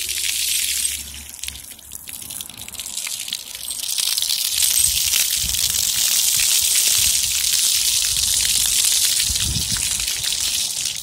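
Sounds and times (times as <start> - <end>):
fountain water spraying and splashing: 0.0 - 11.0.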